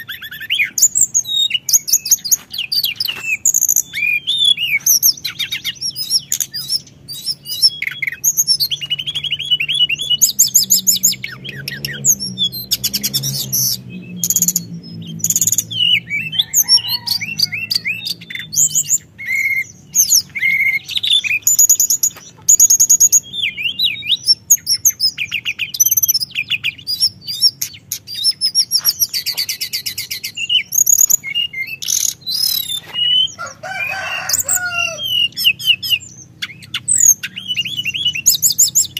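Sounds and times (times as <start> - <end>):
bird singing rolling trills: 0.0 - 38.9.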